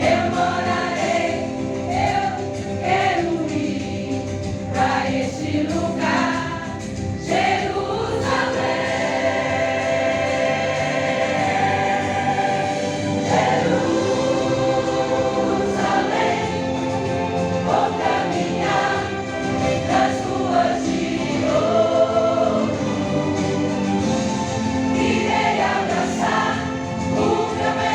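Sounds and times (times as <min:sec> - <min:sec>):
choir singing a hymn: 0:00.0 - 0:27.9.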